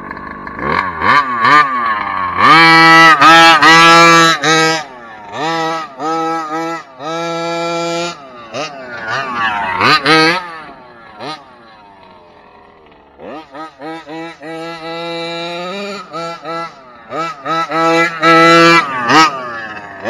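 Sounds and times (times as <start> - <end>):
rc truck motor revving: 0.0 - 20.0.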